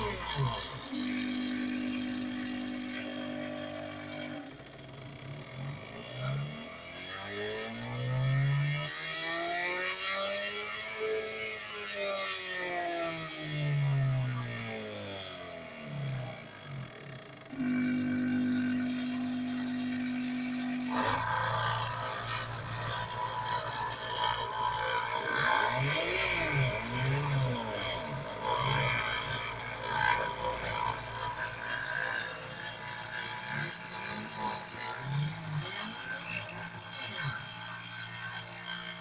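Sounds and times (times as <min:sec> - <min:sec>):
cutter rasping into wood: 0:00.0 - 0:09.0, 0:10.5 - 0:39.0
stepper motors whining: 0:00.0 - 0:39.0.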